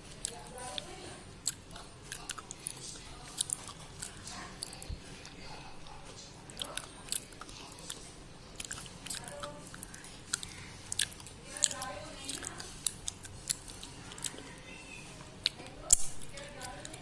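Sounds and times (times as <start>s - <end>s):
slate pencils crunching when chewed: 0.0s - 17.0s.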